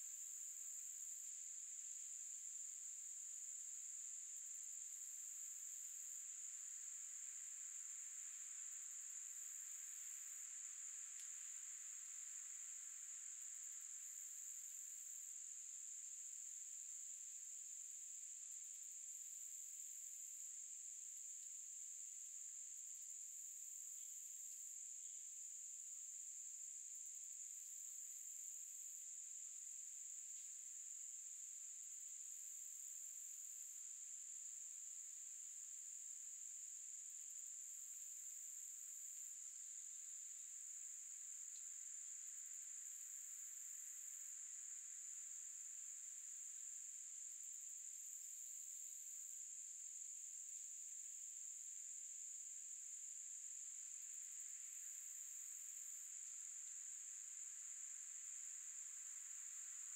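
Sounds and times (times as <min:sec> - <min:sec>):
high insect song bursts: 0:00.0 - 0:21.5, 0:22.3 - 0:59.9
insects trilling: 0:00.0 - 0:21.6, 0:22.3 - 0:51.1, 0:52.0 - 0:59.9.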